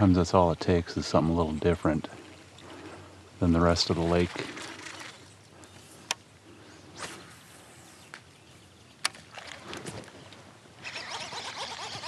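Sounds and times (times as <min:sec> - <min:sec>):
water swishing: 0:00.9 - 0:08.0, 0:09.1 - 0:12.0.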